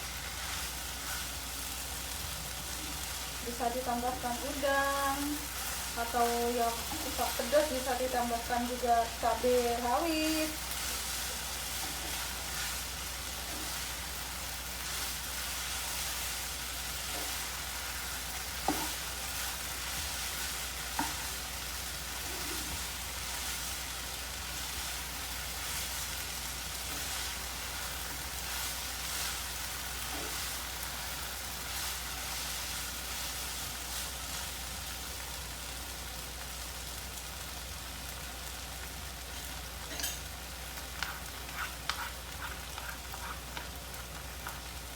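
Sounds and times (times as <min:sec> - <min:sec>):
noodles sizzling in a pan: 0:00.0 - 0:44.9.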